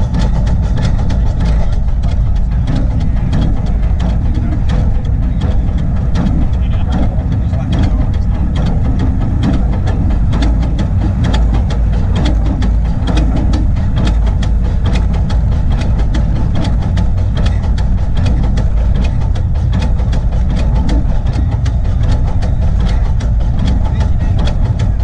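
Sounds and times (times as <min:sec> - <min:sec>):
steam locomotive running: 0:00.0 - 0:25.0.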